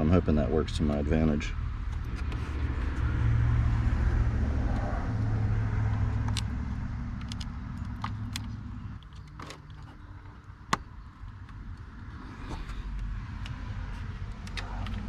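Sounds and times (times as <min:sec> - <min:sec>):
motor vehicle rumbling: 0:00.0 - 0:15.0.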